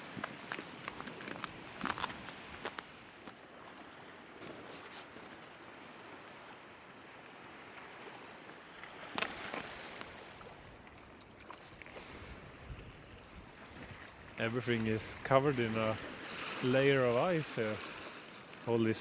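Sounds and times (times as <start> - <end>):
sea washing on rocky shore: 0.0 - 19.0.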